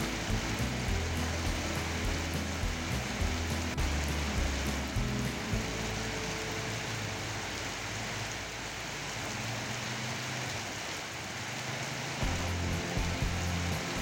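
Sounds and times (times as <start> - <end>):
heavy rain pouring: 0.0 - 14.0
tyres hissing through water: 0.0 - 14.0.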